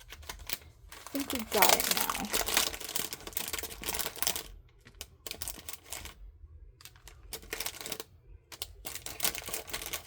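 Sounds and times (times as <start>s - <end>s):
plastic tools clicking and clattering: 0.0s - 6.2s, 6.8s - 10.0s.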